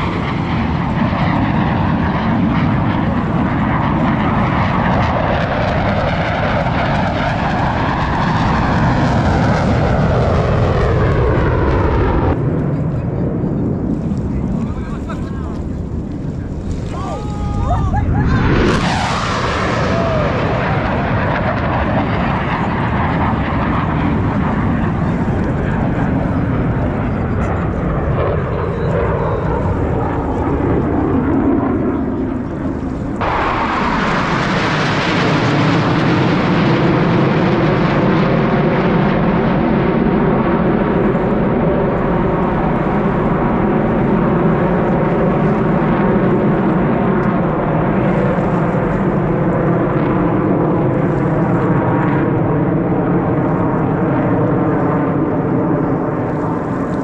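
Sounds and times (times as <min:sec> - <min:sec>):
jets flying over: 0:00.0 - 0:57.0
loud jet roar: 0:00.0 - 0:57.0.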